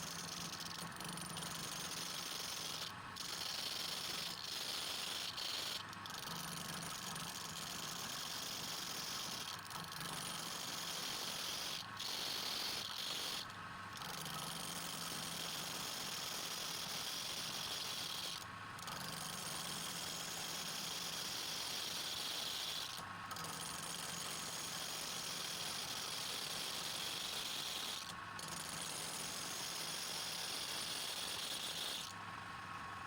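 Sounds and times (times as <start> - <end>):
electric power tool running: 0.0 - 32.1.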